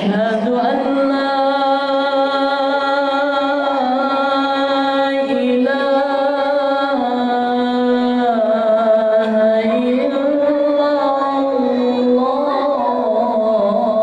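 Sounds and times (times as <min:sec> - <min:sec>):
man singing call to prayer: 0:00.0 - 0:14.0.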